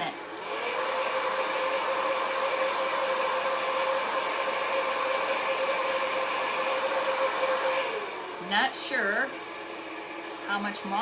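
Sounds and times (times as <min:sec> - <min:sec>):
hot-air dryer whirring: 0:00.0 - 0:11.0.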